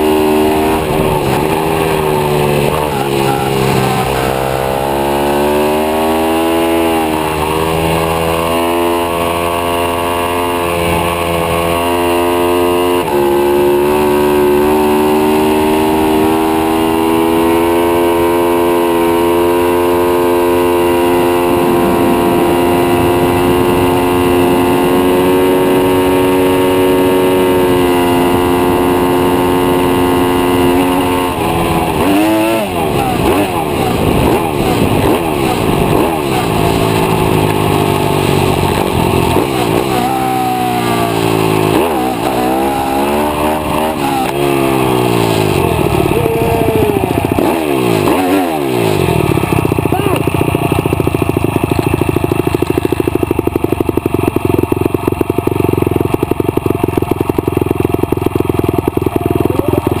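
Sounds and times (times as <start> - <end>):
motorbike engine revving: 0.0 - 60.0.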